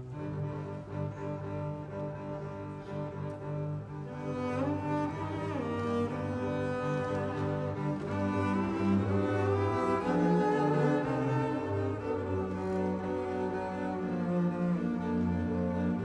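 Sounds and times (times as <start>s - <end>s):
bowed double basses: 0.0s - 16.0s.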